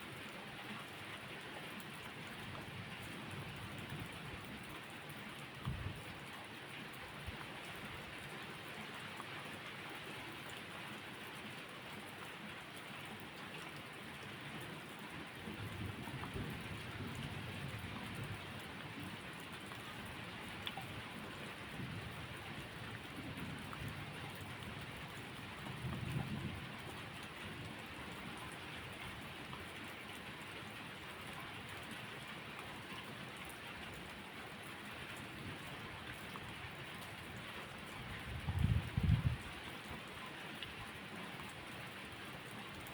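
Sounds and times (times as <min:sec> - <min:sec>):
steady rainfall: 0:00.0 - 0:42.9.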